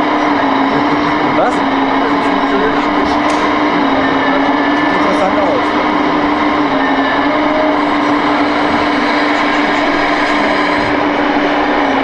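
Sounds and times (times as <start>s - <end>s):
diesel engine sound from small speaker: 0.0s - 12.0s.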